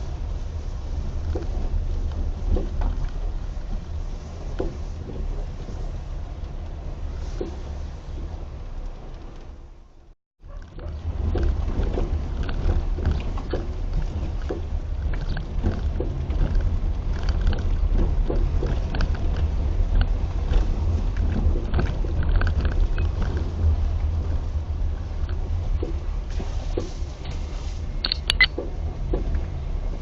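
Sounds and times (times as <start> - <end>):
road rumble: 0.0 - 30.0
suspension knocks and clunks: 0.0 - 30.0.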